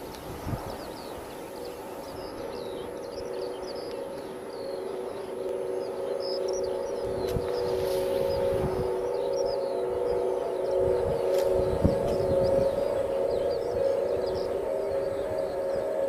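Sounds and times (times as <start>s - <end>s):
birds chirping: 0.0s - 16.0s
steady drone of held tones: 0.0s - 16.0s.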